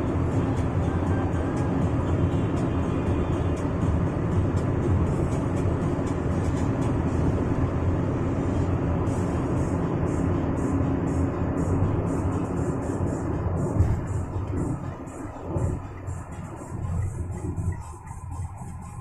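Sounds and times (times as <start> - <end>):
bus engine and road noise: 0.0 - 19.0
music playing: 0.0 - 19.0.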